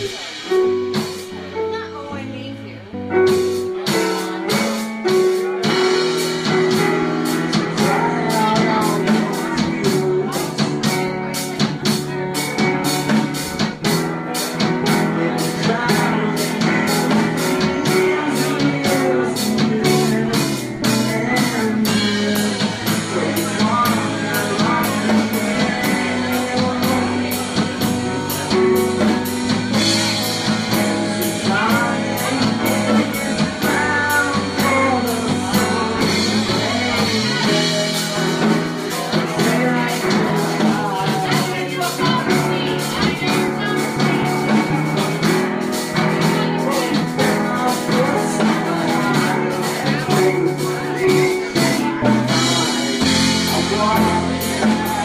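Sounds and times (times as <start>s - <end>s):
drum kit beat: 0.0s - 55.0s
guitar and bass: 0.0s - 55.0s
person singing: 0.0s - 55.0s.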